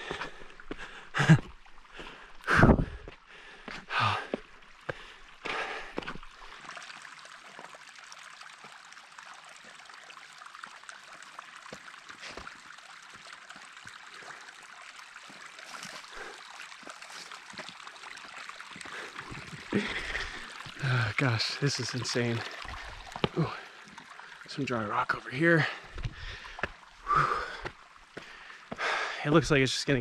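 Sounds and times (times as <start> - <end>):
water trickling over rock: 0.0 - 30.0.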